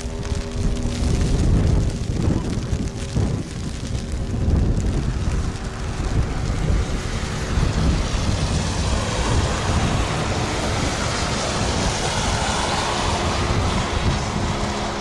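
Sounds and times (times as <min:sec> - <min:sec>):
rain: 0:00.0 - 0:15.0
wind buffeting microphone: 0:00.0 - 0:15.0.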